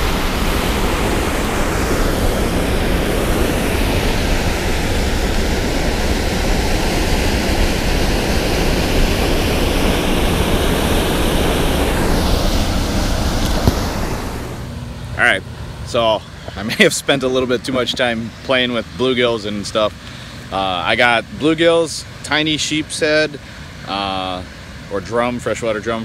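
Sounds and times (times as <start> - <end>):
water rushing and churning: 0.0 - 16.2, 16.8 - 26.0.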